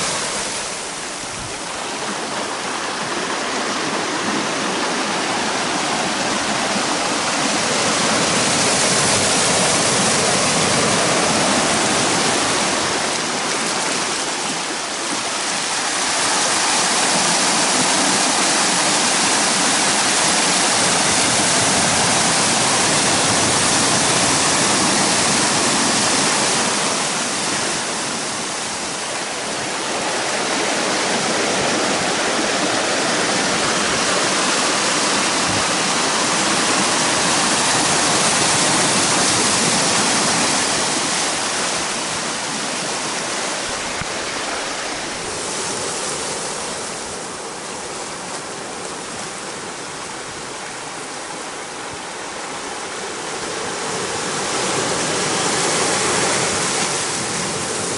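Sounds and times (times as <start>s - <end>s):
ocean surf on rocks: 0.0s - 57.9s.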